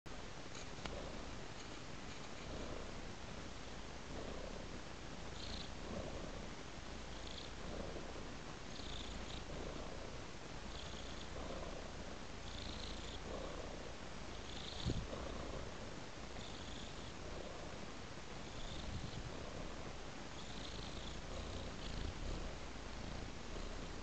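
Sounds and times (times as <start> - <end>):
cat purring: 0.3 - 24.0.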